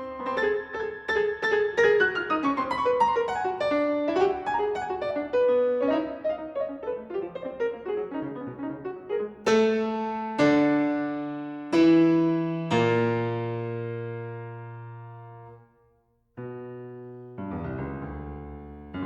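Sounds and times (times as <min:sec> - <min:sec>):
piano music: 0:00.0 - 0:15.7, 0:16.4 - 0:19.0.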